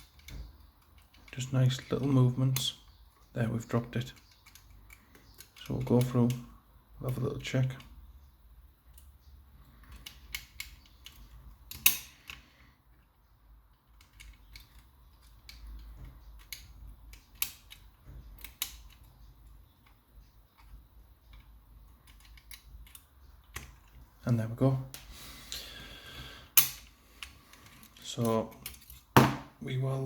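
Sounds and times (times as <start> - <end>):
lock picking clicks and scraping: 0.0 - 8.1, 8.8 - 13.1, 13.7 - 24.1, 26.5 - 29.2.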